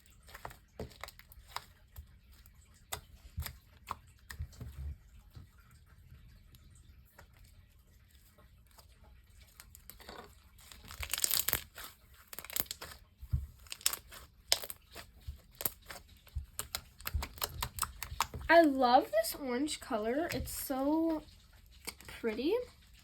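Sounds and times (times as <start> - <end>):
slime squished crackling: 0.0 - 4.8, 8.7 - 23.0.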